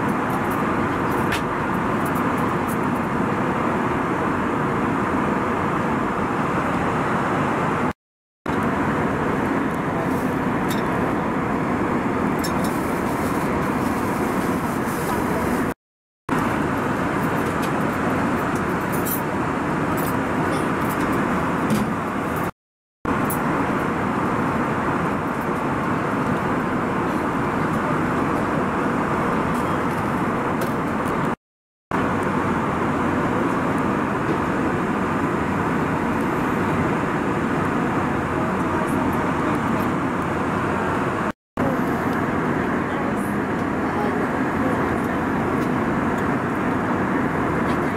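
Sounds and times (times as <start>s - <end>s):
airliner cabin engine rush: 0.0s - 47.9s.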